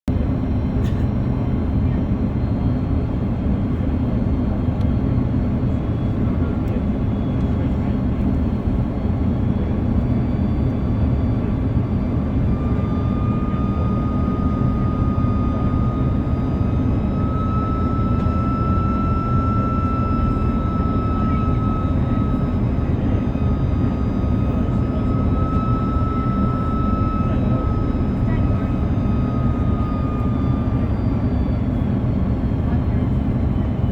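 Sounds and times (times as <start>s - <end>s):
jet engines rumbling and whining: 0.1s - 33.9s.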